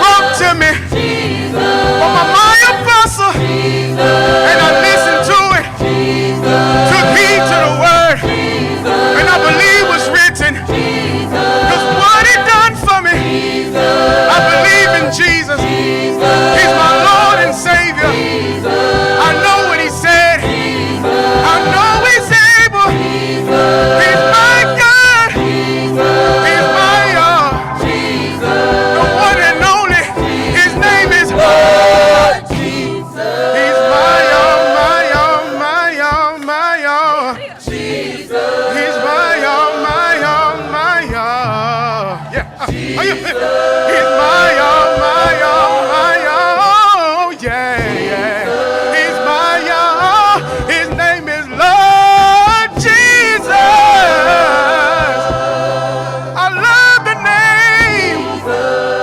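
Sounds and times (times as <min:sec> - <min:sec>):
gospel choir singing: 0:00.0 - 0:59.0.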